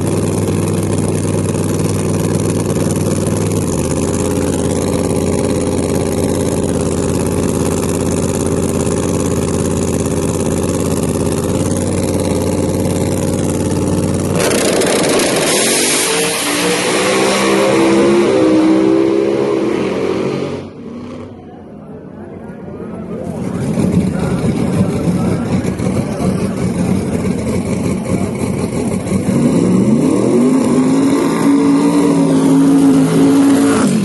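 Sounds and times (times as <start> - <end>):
drag car engine revving: 0.0 - 21.5, 23.0 - 34.0.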